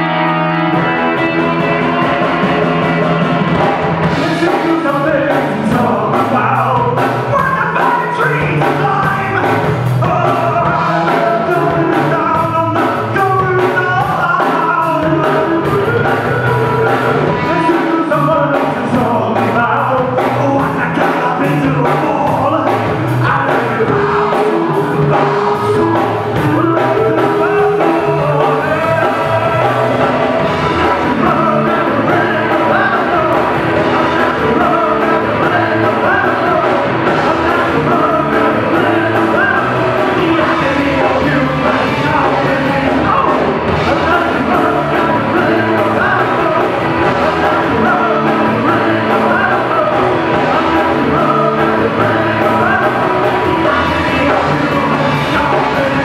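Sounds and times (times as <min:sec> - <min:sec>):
lead vocals: 0:00.0 - 0:56.0
live rock band playing: 0:00.0 - 0:56.0.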